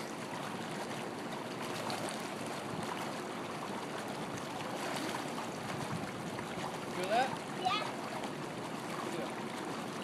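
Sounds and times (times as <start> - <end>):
pool water sloshing and lapping: 0.0 - 10.0
small water splashes: 0.0 - 10.0.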